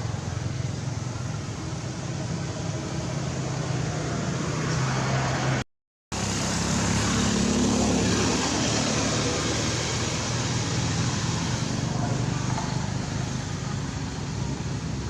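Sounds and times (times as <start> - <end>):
vehicle engine humming: 0.0 - 5.6, 6.2 - 15.0
road noise: 0.0 - 15.0.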